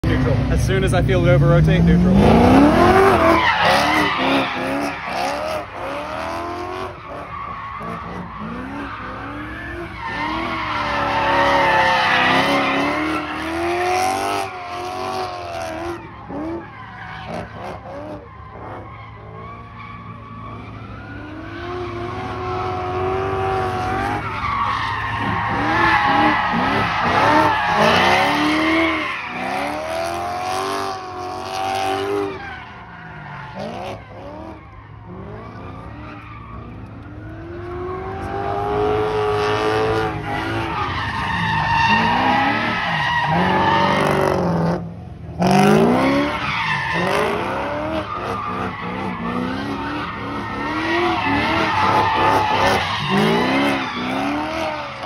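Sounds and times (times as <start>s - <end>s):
car engine revving: 0.0s - 55.0s
tyres squealing and skidding: 0.0s - 55.0s.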